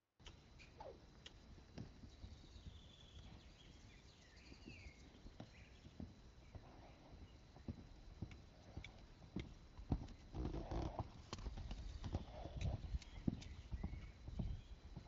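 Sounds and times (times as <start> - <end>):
horse hooves on sand: 1.2 - 15.0.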